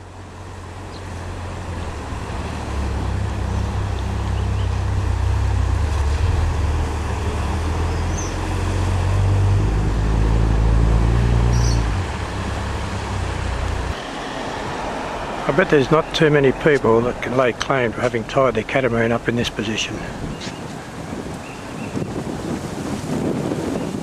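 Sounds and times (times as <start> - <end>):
engine running with low drone: 0.0 - 21.0.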